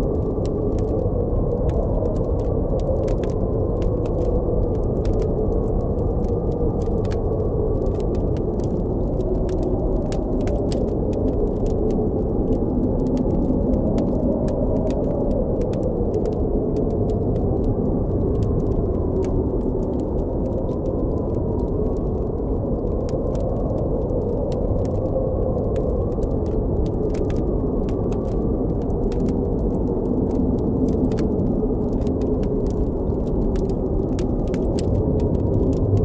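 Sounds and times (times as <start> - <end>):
blizzard wind howling: 0.0 - 36.0
campfire crackling: 0.1 - 36.0.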